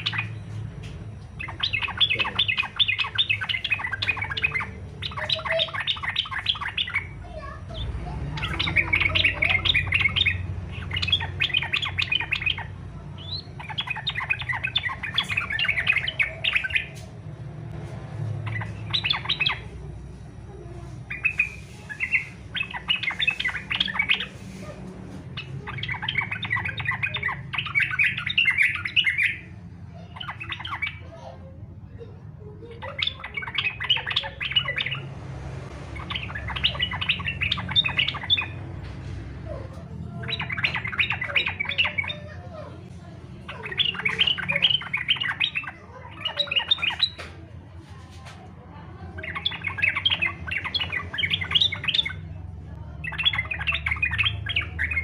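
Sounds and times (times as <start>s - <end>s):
bulbul chattering song: 0.0s - 47.7s, 48.6s - 55.0s.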